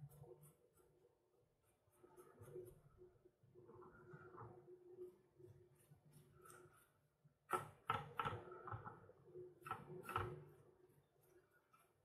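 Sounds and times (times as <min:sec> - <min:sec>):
brush rubbing on plastic model: 0:00.0 - 0:07.6, 0:08.6 - 0:12.0.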